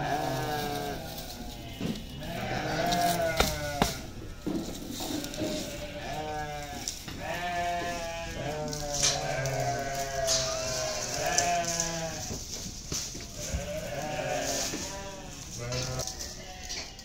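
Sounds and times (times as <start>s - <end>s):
goats and sheep bleating: 0.0s - 17.0s.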